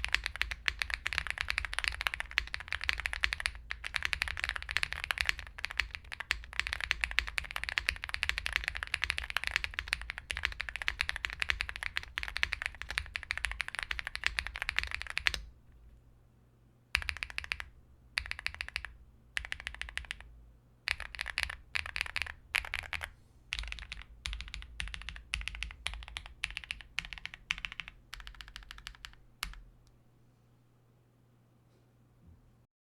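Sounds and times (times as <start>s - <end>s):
mechanical keyboard typing: 0.0s - 15.5s, 17.0s - 20.3s, 20.9s - 29.6s.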